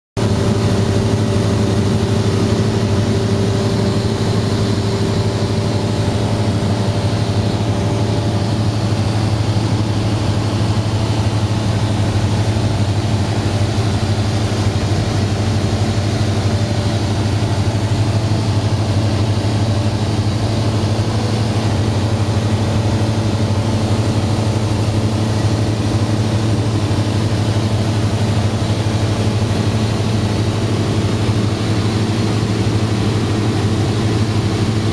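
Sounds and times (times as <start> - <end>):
airplane engine drone: 0.2 - 34.9.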